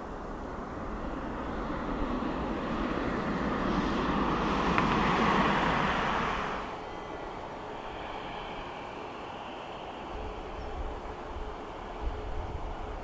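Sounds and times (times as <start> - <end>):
airliner jet engines roaring: 0.0 - 13.0.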